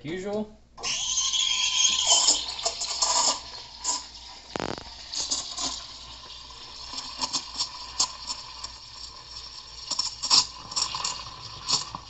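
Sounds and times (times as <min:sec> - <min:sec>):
steam wand frothing milk: 0:00.8 - 0:12.0.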